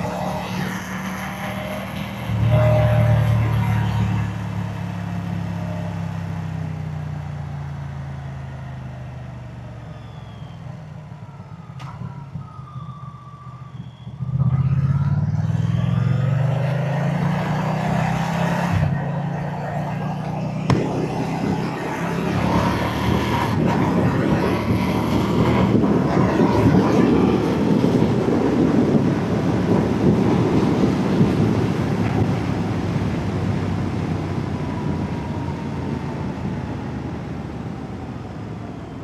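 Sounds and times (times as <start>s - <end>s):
motorcycle engine accelerating: 0.0s - 13.2s, 13.8s - 38.3s.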